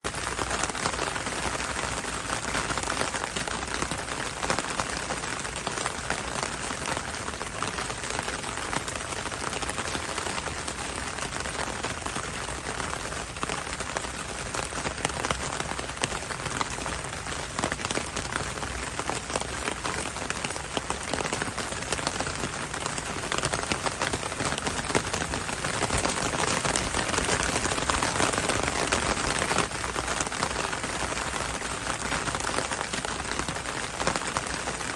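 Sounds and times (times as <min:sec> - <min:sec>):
heavy rain pattering: 0:00.0 - 0:34.9.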